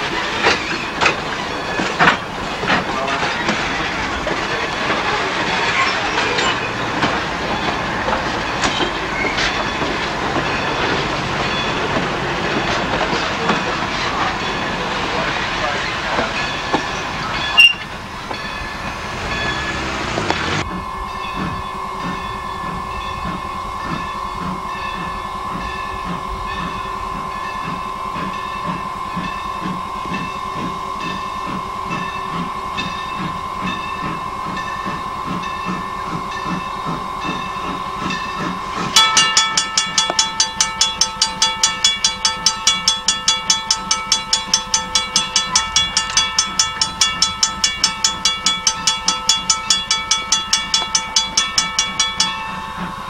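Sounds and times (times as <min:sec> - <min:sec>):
locomotive bell ringing: 0:00.0 - 0:53.0
steam locomotive whine and hiss: 0:00.0 - 0:53.0.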